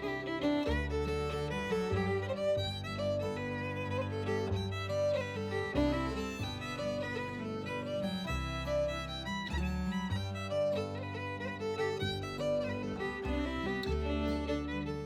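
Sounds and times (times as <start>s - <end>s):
fiddle playing a tune: 0.0s - 15.0s
sustained bass accompaniment: 0.0s - 15.0s.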